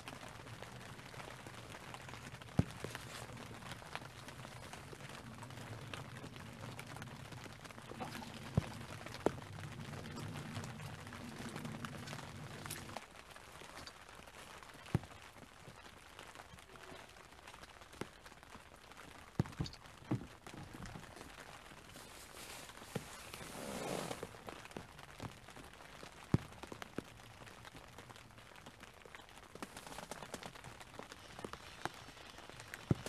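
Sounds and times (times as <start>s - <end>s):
raindrops ticking: 0.0s - 23.2s, 24.2s - 33.0s
light rain hiss: 0.0s - 33.0s.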